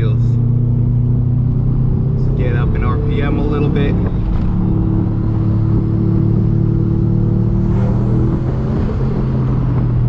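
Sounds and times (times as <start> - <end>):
turbocharged engine pulling hard: 0.0 - 10.0.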